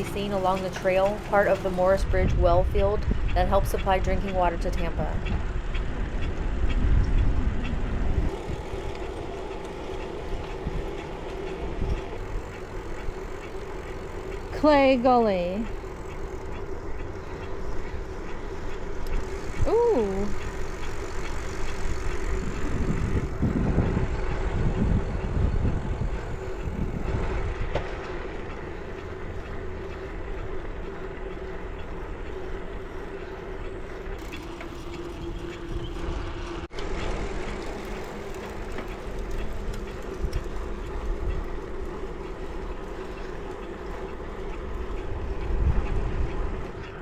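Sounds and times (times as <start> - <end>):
bicycle tyre and drivetrain noise: 0.0 - 47.0
wind buffeting microphone: 0.0 - 47.0.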